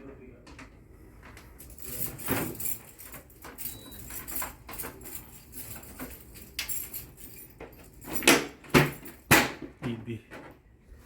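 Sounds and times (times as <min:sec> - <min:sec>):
clicks and light clattering: 0:00.4 - 0:10.6.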